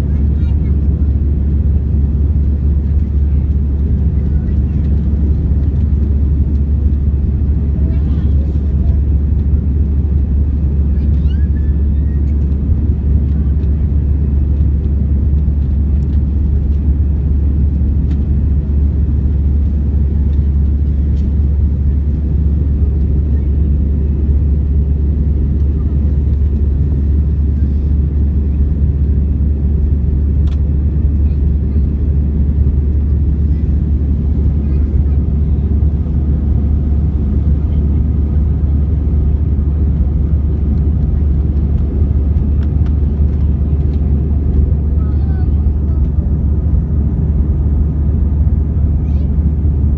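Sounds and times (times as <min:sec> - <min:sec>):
airliner engine rumble: 0:00.0 - 0:49.9.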